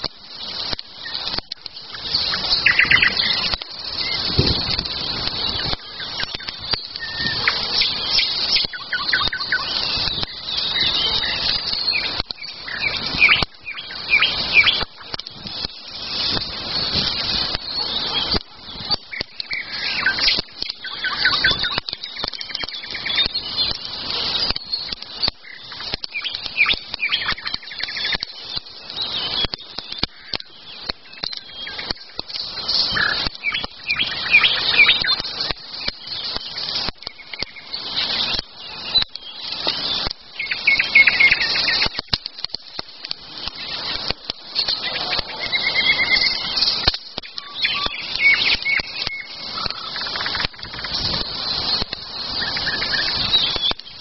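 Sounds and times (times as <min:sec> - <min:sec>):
short crackles and clicks: 0:00.0 - 0:54.0
songbirds chirping and singing: 0:00.0 - 0:54.0.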